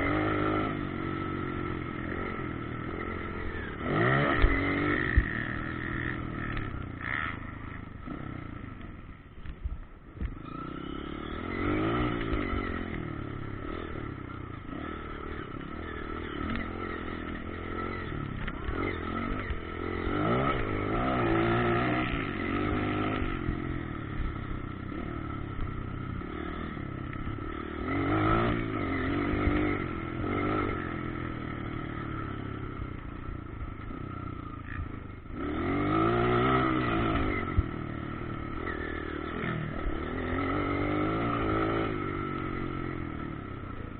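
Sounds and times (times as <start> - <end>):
motorcycle engines revving: 0.0 - 43.9.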